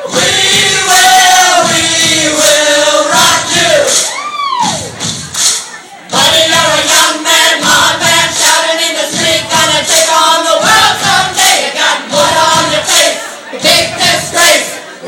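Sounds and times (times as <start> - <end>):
group singing karaoke: 0.0 - 4.2, 6.1 - 15.0
backing track music: 0.0 - 15.0.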